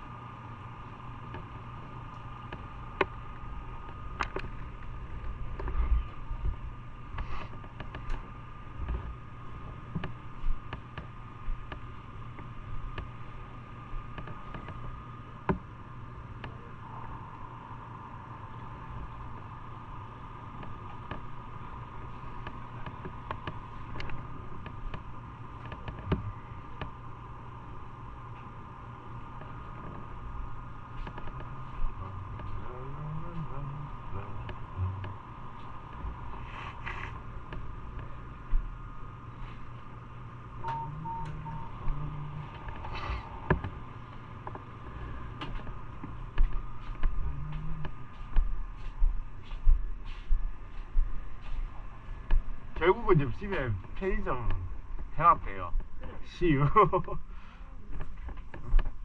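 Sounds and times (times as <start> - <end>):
faint high whine: 0.0 - 59.0
machine hum: 0.0 - 59.0.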